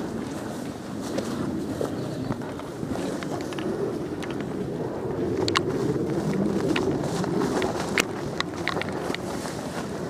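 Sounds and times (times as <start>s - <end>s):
footsteps through tall grass: 0.0s - 10.0s.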